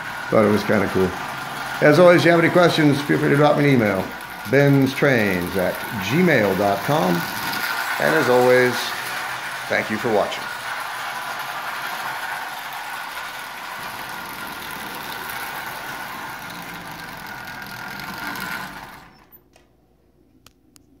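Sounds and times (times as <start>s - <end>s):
toy train clattering rumble: 0.0s - 19.6s
faint motor whine: 0.0s - 21.0s.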